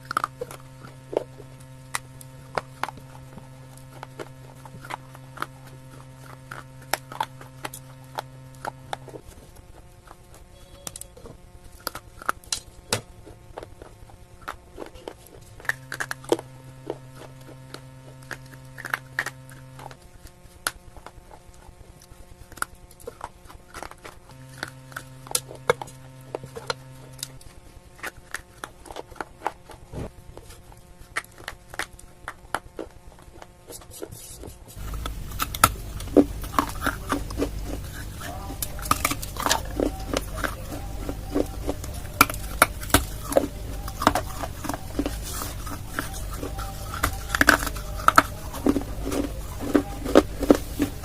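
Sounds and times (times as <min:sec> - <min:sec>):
dry clay crunching being chewed: 0:00.0 - 0:51.0.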